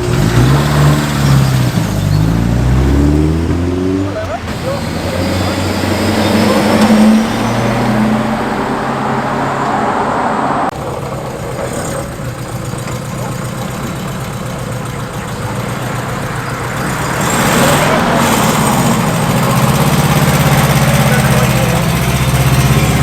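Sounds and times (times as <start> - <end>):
cars driving past: 0.0 - 23.0
engine running steadily: 0.0 - 23.0.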